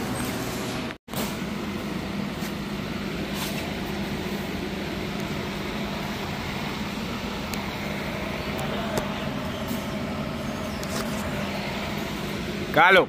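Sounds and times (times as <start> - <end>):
car engine idling: 1.5 - 12.8.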